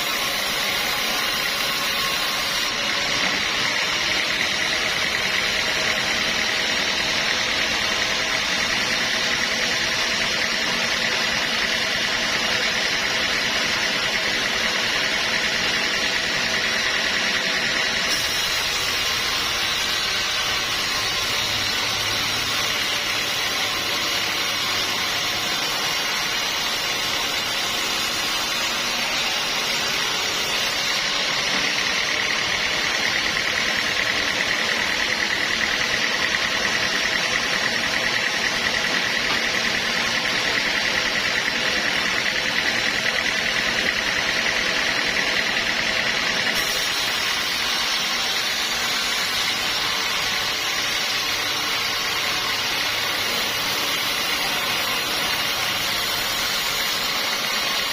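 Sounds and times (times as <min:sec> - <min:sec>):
sawmill machinery whining: 0:00.0 - 0:57.9.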